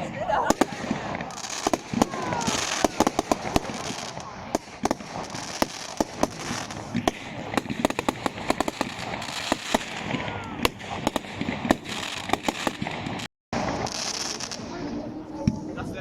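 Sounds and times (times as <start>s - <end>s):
fireworks bangs and cracks: 0.0s - 14.8s
fireworks crackling: 0.0s - 16.0s.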